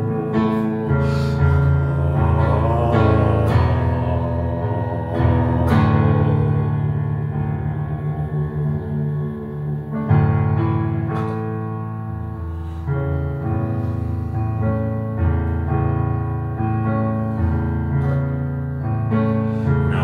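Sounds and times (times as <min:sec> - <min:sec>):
electronic keyboard piano chords: 0:00.0 - 0:20.0.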